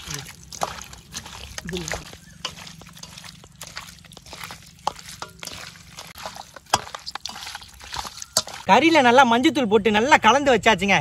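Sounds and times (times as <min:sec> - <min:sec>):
hands mixing raw chicken: 0:00.0 - 0:09.2.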